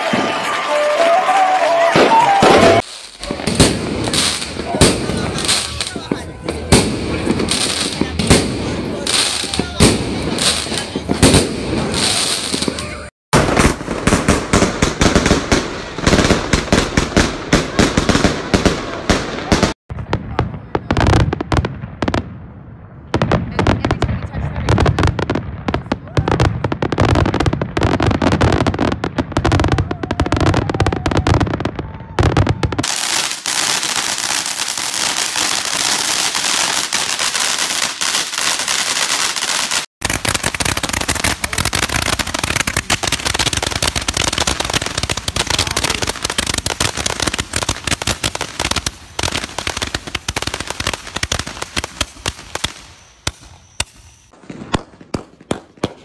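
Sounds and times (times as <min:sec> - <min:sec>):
fireworks popping: 0:00.0 - 0:22.3, 0:23.1 - 0:56.0
fireworks crackling and banging: 0:00.0 - 0:56.0.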